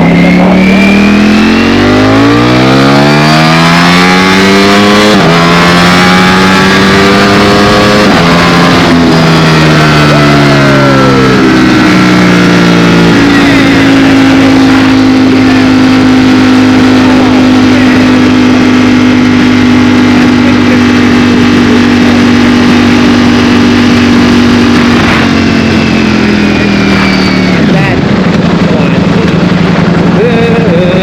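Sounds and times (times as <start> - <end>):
motorcycle engine at speed: 0.0 - 31.0.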